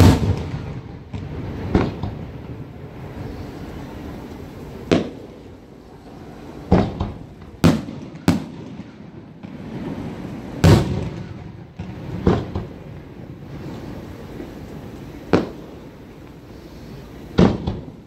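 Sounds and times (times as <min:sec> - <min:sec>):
firework bangs with echo: 0:00.0 - 0:05.7, 0:06.6 - 0:16.1, 0:17.3 - 0:18.0.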